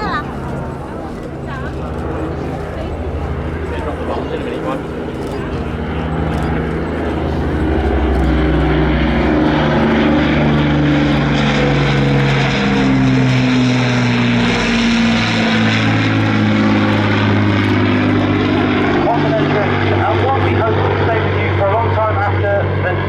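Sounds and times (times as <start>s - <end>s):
propeller plane engines flying past: 0.0s - 23.0s.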